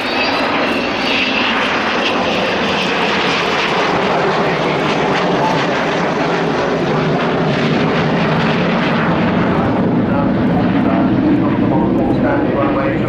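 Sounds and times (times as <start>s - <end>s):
loud jet roar: 0.0s - 13.0s.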